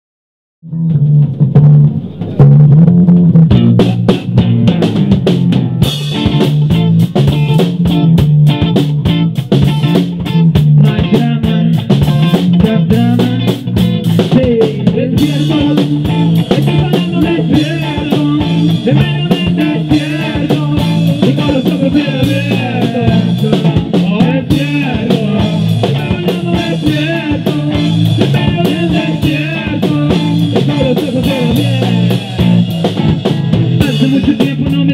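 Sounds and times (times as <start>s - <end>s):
bass guitar: 0.6s - 34.9s
electric guitar: 0.6s - 34.9s
drum kit: 0.7s - 34.9s.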